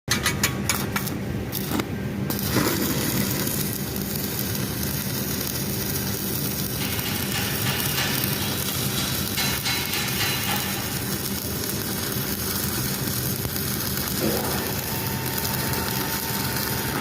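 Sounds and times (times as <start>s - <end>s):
arc welding crackling hiss: 0.8s - 17.0s.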